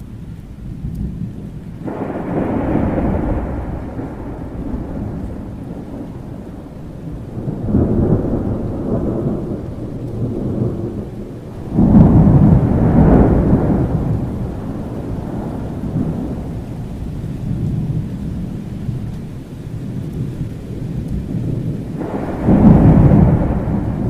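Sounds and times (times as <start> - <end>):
rolling thunder: 0.0 - 24.0
steady rain: 0.0 - 24.0.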